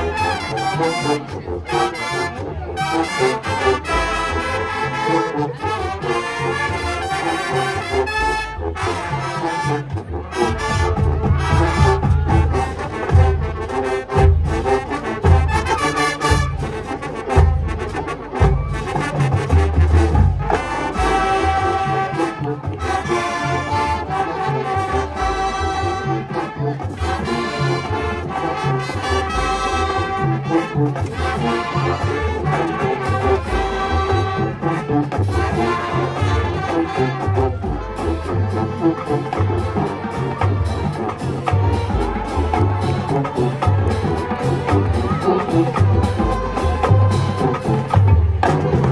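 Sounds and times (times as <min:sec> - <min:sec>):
brass section playing: 0:00.0 - 0:48.9
bass drums and percussion: 0:06.3 - 0:48.9.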